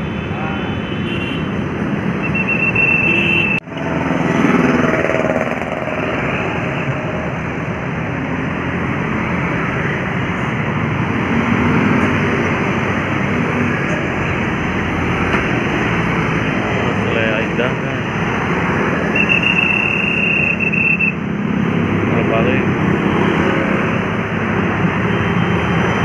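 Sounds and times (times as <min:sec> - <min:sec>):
passing vehicle engines: 0:00.0 - 0:26.0.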